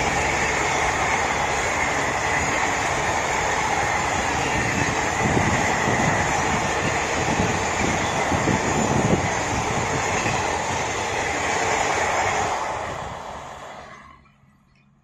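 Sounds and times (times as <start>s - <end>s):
train wheels roaring on rails: 0.0s - 15.0s.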